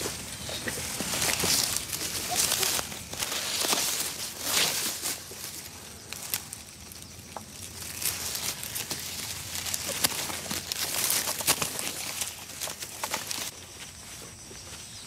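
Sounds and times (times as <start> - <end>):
dry straw rustling and crackling: 0.0 - 14.9.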